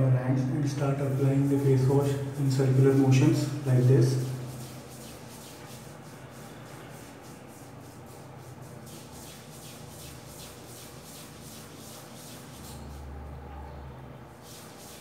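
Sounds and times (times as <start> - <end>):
steady low hum: 0.0 - 15.0
wet hands rubbing face: 1.0 - 13.1, 14.3 - 15.0.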